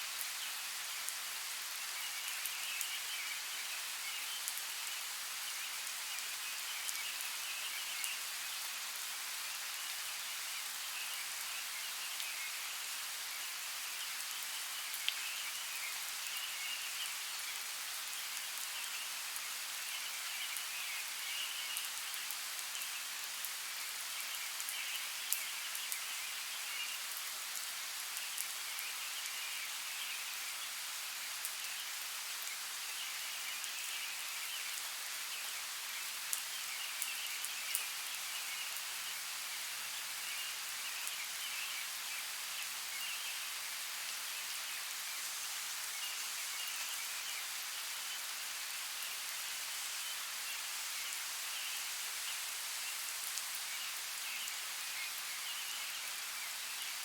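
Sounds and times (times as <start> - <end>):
steady hiss of water: 0.0 - 57.0.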